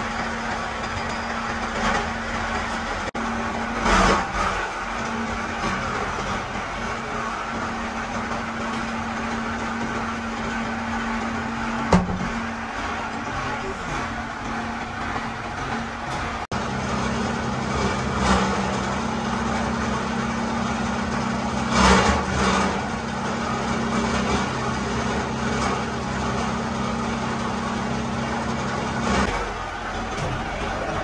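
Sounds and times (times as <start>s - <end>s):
machine noise: 0.0s - 31.0s.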